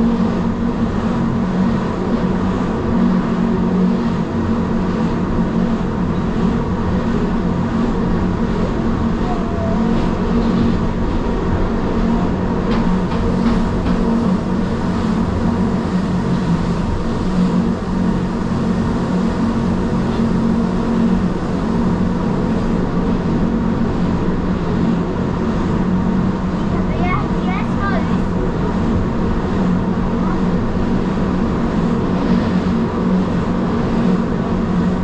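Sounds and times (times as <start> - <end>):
train running gear rumble: 0.0 - 35.0.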